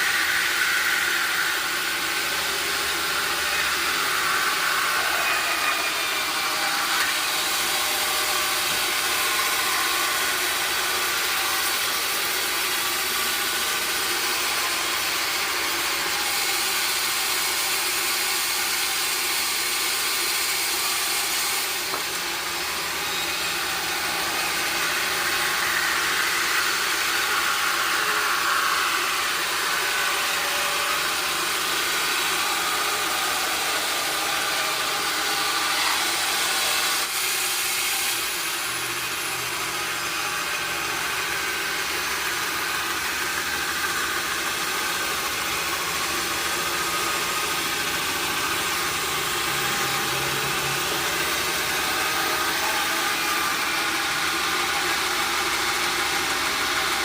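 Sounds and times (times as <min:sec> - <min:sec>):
sawmill machinery hum and hiss: 0:00.0 - 0:57.0.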